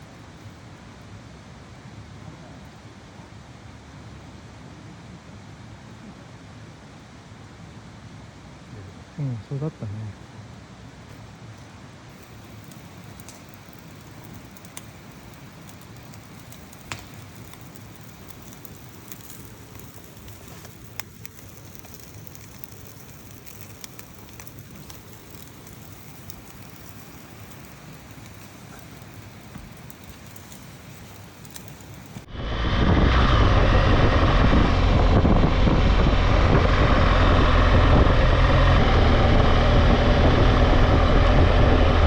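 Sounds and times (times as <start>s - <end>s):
wood fire crackling: 0.0s - 2.9s, 10.1s - 42.0s.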